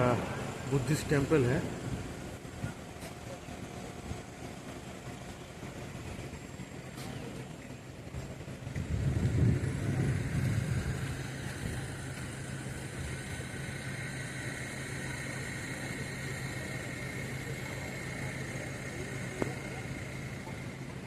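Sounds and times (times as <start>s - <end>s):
vehicle engine rumble: 0.0s - 21.0s.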